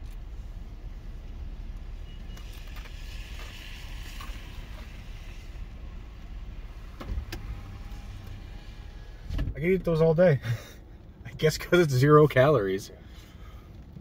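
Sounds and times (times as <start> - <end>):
idling car rumble: 0.0 - 14.0.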